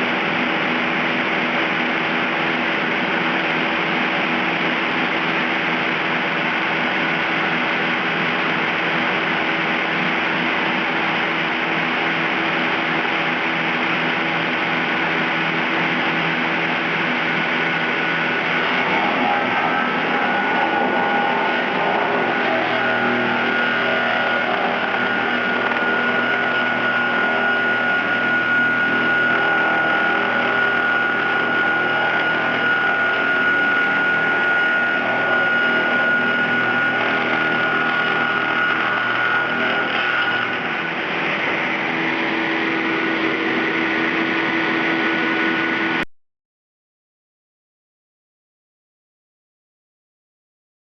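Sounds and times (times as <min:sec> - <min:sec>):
sawmill machine din: 0:00.0 - 0:46.0
high machine whine: 0:00.0 - 0:46.1.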